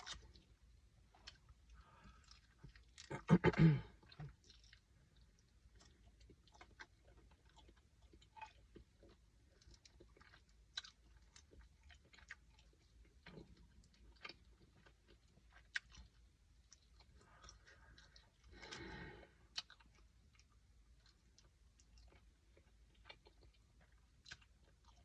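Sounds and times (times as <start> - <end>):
person chewing: 0.0 - 25.0.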